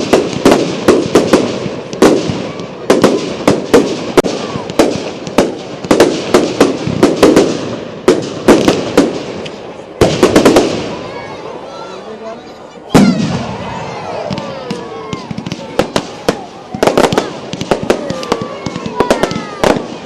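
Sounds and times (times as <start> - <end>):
fireworks banging: 0.0 - 11.4, 12.8 - 20.0.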